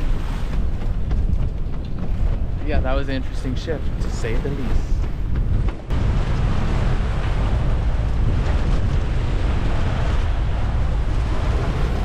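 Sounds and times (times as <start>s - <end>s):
water washing along boat hull: 0.0s - 12.0s
wind buffeting microphone: 0.0s - 12.0s.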